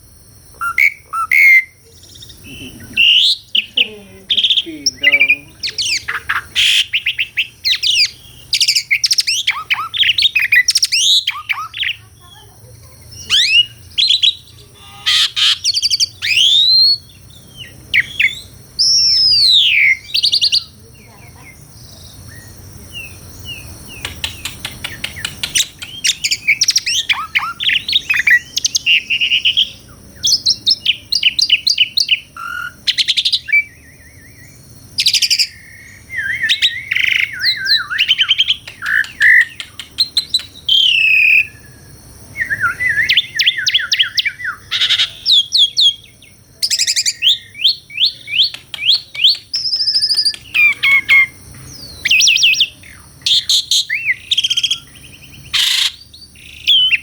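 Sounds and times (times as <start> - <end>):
starling singing: 0.5 - 57.0.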